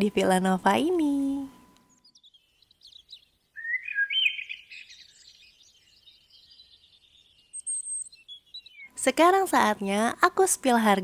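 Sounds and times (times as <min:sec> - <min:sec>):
birds chirping and twittering: 0:00.0 - 0:11.0.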